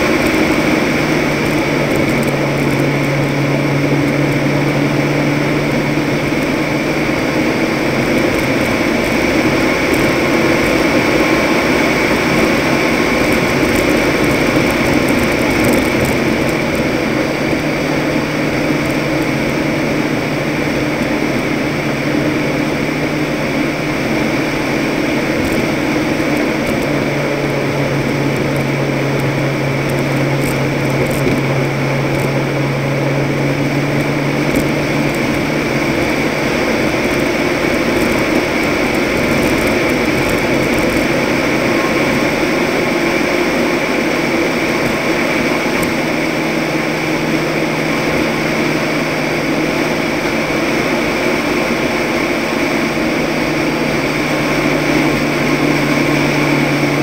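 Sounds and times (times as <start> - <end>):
truck engine running: 0.0 - 57.0
tyre and road noise: 0.0 - 57.0.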